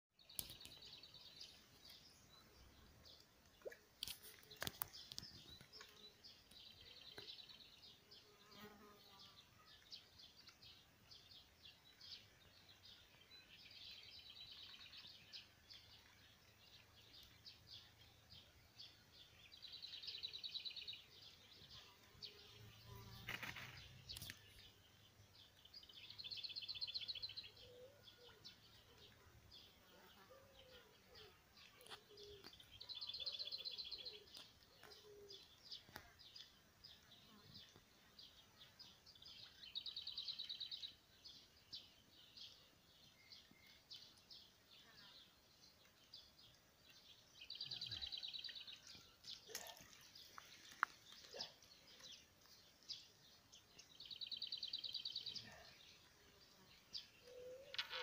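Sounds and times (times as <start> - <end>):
songbird trills: 0.2 - 58.0.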